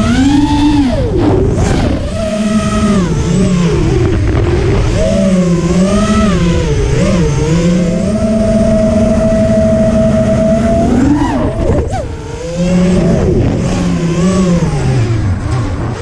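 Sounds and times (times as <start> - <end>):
quadcopter propellers whining: 0.0 - 16.0.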